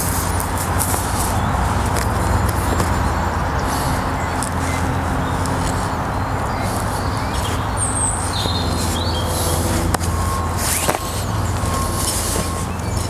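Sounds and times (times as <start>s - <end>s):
high bird chirps: 1.2s - 13.0s.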